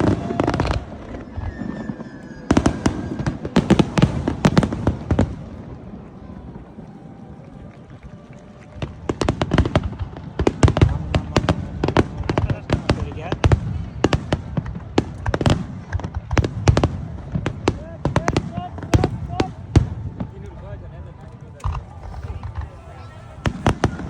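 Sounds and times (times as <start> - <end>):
fireworks cracking and banging: 0.0 - 24.0.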